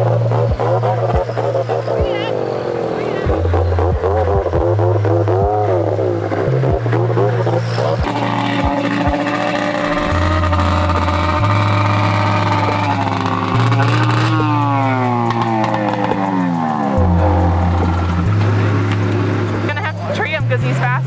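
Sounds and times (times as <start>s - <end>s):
snowmobile engines racing: 0.0s - 21.0s.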